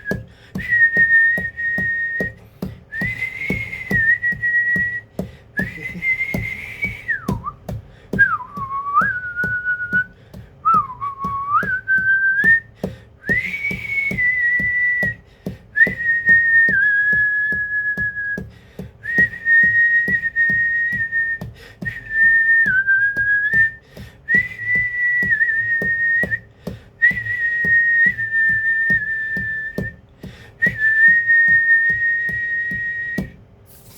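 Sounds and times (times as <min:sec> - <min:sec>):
high clear whistling tone: 0:00.0 - 0:15.2, 0:15.8 - 0:18.4, 0:19.0 - 0:30.0, 0:30.6 - 0:33.4.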